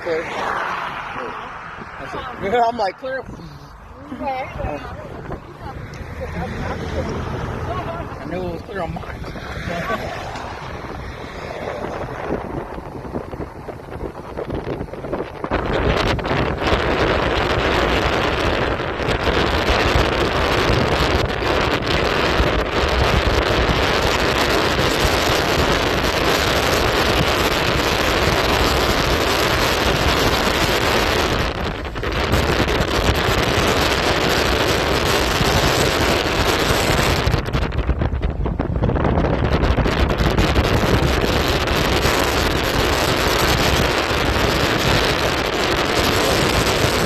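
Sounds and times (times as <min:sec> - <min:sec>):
strong wind buffeting microphone: 0:00.0 - 0:47.0.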